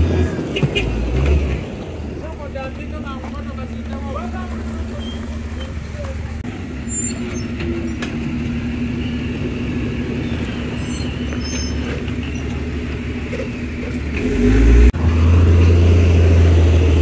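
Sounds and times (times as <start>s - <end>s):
motor vehicle engines running: 0.0s - 17.0s.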